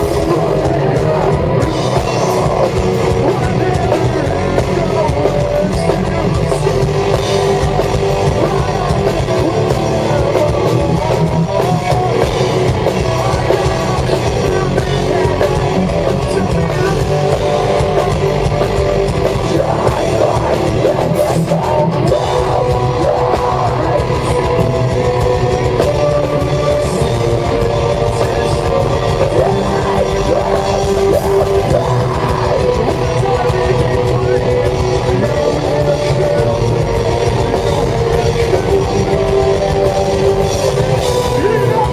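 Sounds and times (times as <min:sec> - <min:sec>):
distorted guitars: 0:00.0 - 0:41.9
fast drums: 0:00.0 - 0:41.9.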